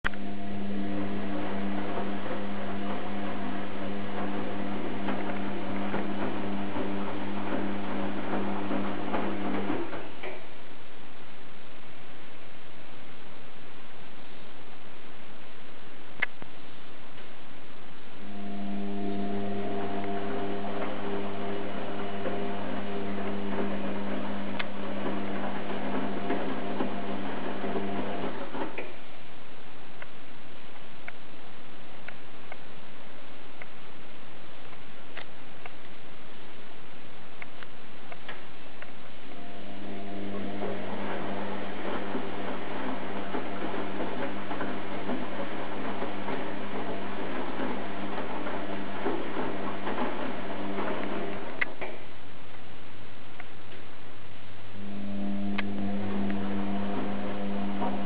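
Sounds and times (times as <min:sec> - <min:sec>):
washing machine motor humming: 0:00.0 - 0:13.6, 0:16.2 - 0:30.0, 0:33.4 - 0:58.0.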